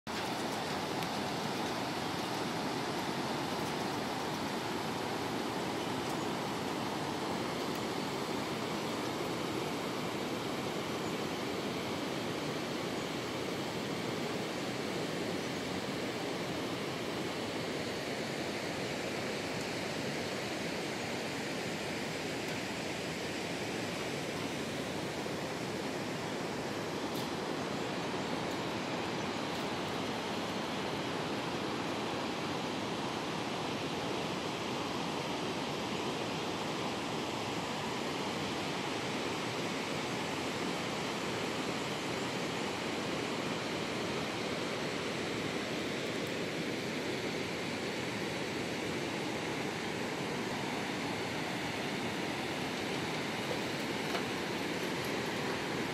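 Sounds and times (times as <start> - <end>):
river water rushing over rapids: 0.1 - 55.9.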